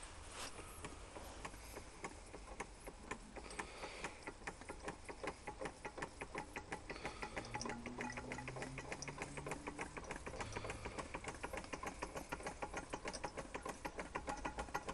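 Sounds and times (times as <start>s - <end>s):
model steam engine ticking: 0.8s - 14.9s.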